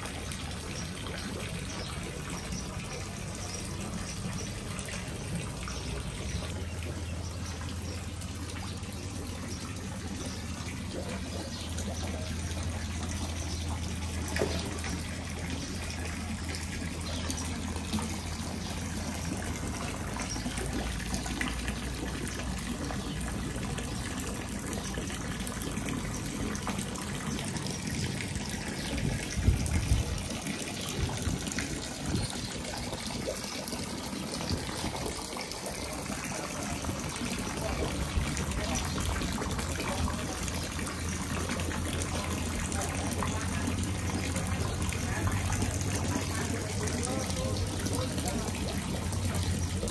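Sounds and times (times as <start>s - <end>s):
water trickling into pond: 0.0s - 49.9s.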